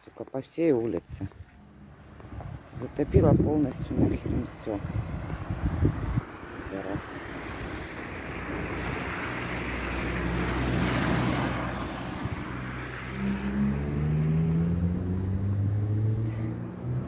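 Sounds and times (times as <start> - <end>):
vehicle engine humming: 1.0 - 17.0.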